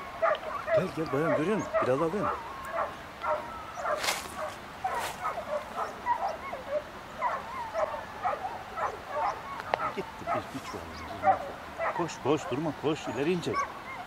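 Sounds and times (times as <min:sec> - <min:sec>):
dogs yelping and baying: 0:00.0 - 0:14.0.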